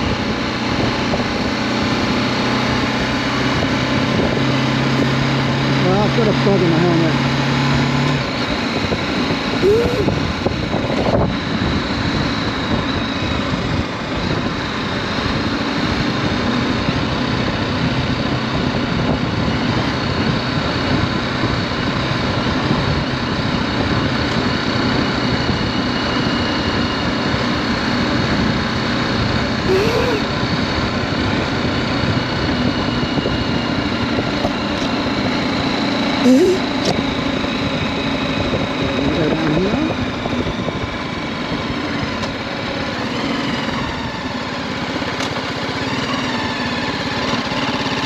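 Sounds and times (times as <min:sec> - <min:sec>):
motorcycle engine running: 0:00.0 - 0:48.0
wind and road noise: 0:00.0 - 0:48.0.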